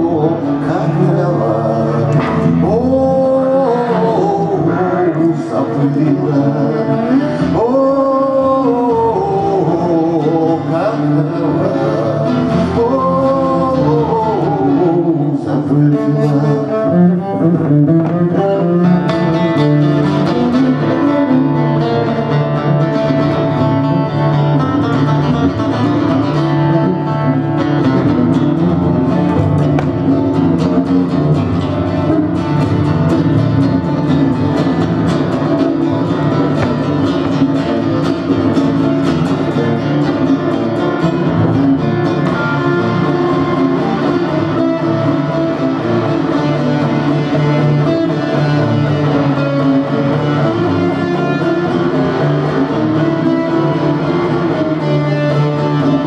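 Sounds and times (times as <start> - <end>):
acoustic guitar: 0.0 - 56.0
bowed double bass: 0.0 - 56.0
man singing: 0.0 - 56.0.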